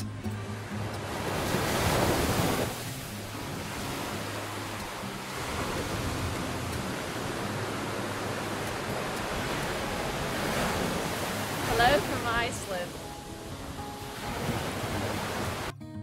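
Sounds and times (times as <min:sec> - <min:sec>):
small waves breaking on sand: 0:00.5 - 0:15.7.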